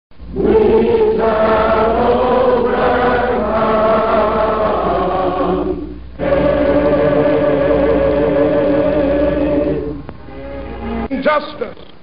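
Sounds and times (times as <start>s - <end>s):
low hum: 0.1s - 11.1s
group of voices singing: 0.3s - 11.1s.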